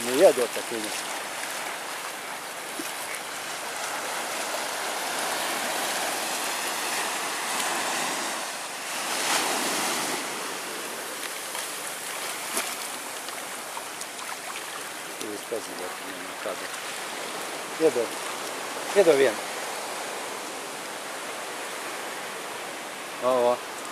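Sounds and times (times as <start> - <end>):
small waves washing over sand: 0.0 - 23.9.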